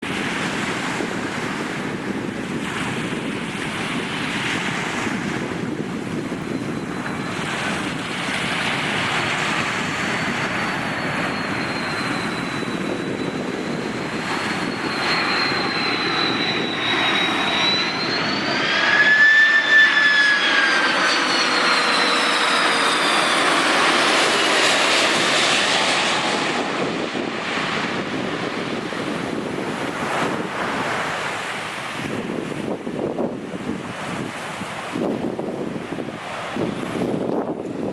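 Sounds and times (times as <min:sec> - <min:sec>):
airliner jet engines with fan whine: 0:00.0 - 0:37.9.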